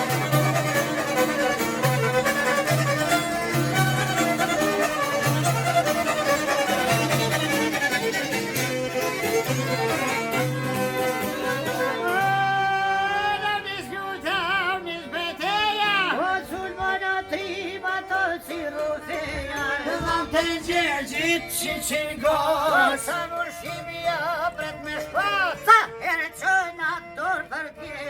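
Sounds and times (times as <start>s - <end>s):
folk music with violin: 0.0s - 28.0s.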